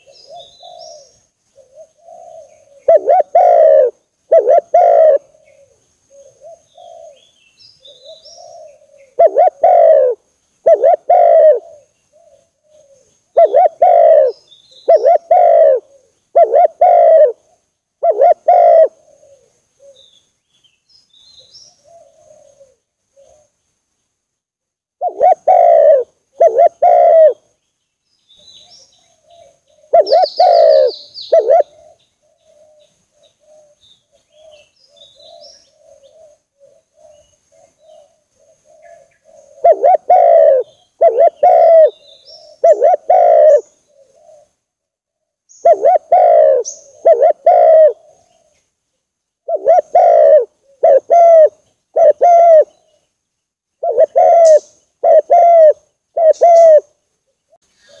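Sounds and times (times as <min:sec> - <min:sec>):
dove cooing: 0:00.0 - 0:20.1, 0:21.4 - 0:23.5, 0:25.0 - 0:27.5, 0:28.5 - 0:44.6, 0:45.5 - 0:48.6, 0:49.4 - 0:53.0, 0:53.8 - 0:58.0
small birds chirping: 0:00.0 - 0:24.3, 0:25.0 - 0:44.7, 0:45.4 - 0:58.0.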